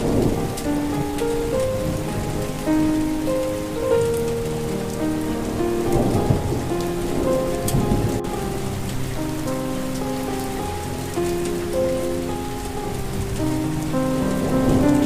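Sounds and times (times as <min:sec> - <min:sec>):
low rumble of thunder: 0:00.0 - 0:15.0
slow melody of held notes: 0:00.0 - 0:15.0
steady rain falling: 0:00.0 - 0:15.0.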